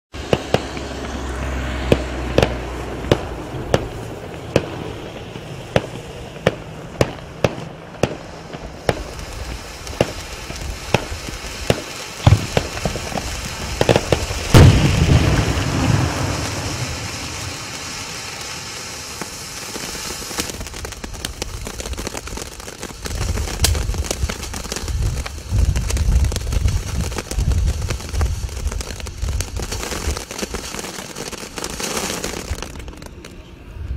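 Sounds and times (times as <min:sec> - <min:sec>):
firework sharp pops: 0:00.2 - 0:33.5
sparks hissing and crackling: 0:00.2 - 0:33.6
firework bangs: 0:00.2 - 0:33.7.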